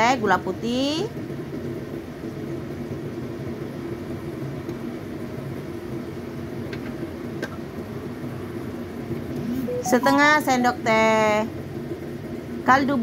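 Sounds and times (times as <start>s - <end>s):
stove hum with hiss: 0.0s - 13.0s.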